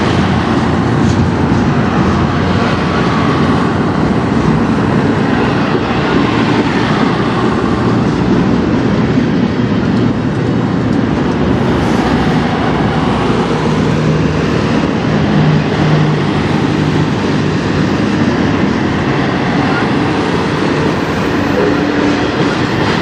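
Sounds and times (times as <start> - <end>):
train wheels rolling on rails: 0.0 - 23.0.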